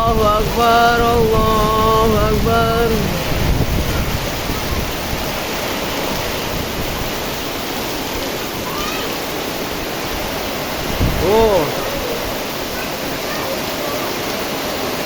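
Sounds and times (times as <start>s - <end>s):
heavy rain pouring: 0.0s - 15.0s
wind: 0.0s - 15.0s.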